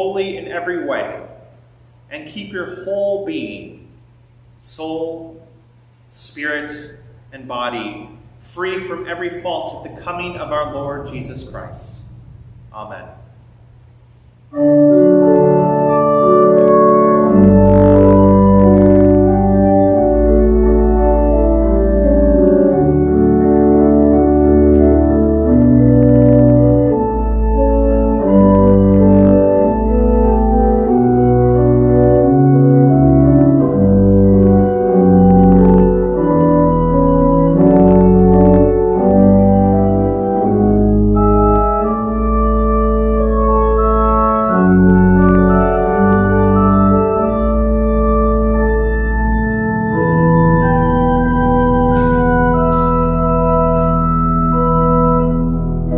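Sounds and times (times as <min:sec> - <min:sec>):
organ playing slow chords: 0:00.0 - 0:55.9.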